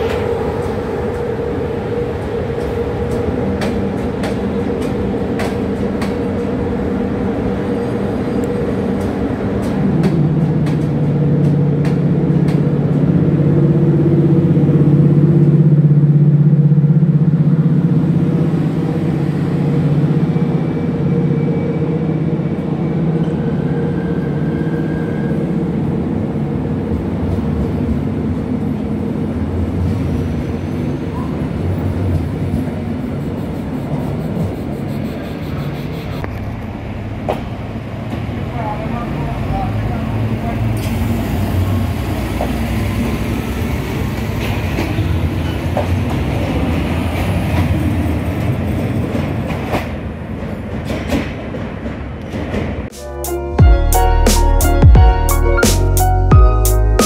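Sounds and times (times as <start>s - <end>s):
electric locomotive hum: 0.0s - 57.0s.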